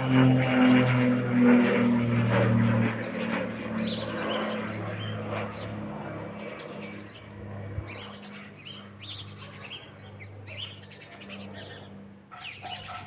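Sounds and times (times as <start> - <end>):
propeller plane engines droning: 0.0 - 13.0
birds chirping: 0.4 - 13.0.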